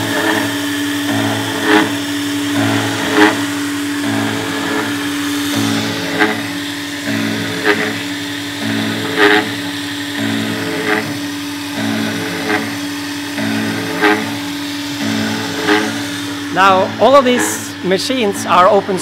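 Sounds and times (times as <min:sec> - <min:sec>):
milling machine cutting metal: 0:00.0 - 0:19.0.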